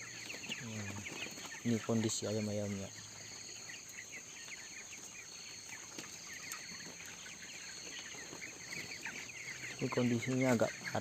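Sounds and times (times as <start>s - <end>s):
chickens peeping and chirping: 0.0s - 11.0s.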